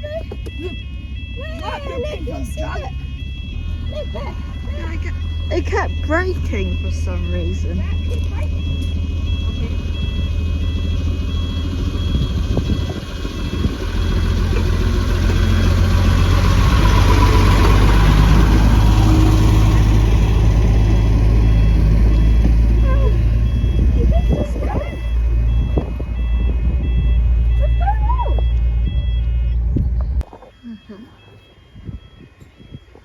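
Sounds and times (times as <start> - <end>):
train rumbling over crossing: 0.0 - 30.2
level crossing alarm beeping: 0.0 - 33.0.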